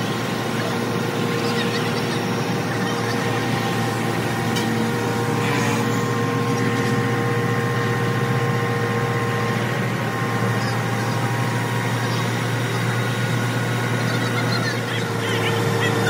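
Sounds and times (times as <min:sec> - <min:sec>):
engine humming with whine: 0:00.0 - 0:16.0.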